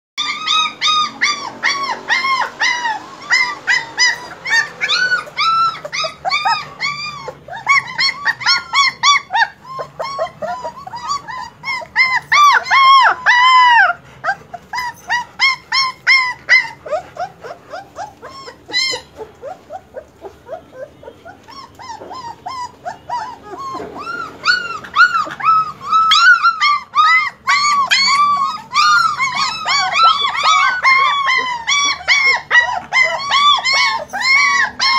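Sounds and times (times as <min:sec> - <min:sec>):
puppies yipping and whining: 0:00.2 - 0:34.9.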